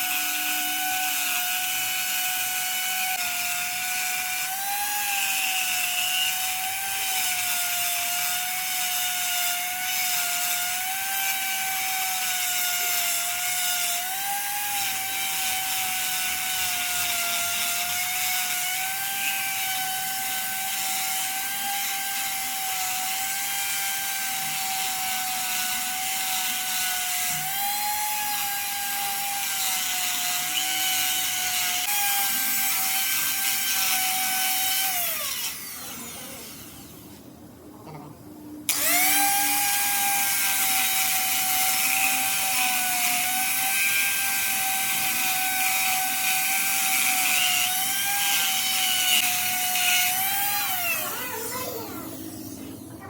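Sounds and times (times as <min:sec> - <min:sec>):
power tool motor whining: 0:00.0 - 0:37.3, 0:38.7 - 0:53.0.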